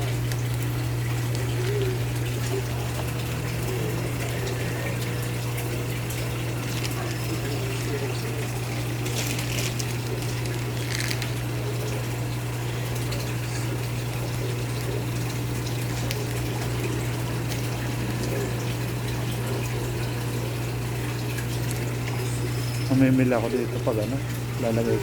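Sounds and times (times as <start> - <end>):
electric pump humming: 0.0 - 25.0
water flowing and splashing: 0.0 - 25.0.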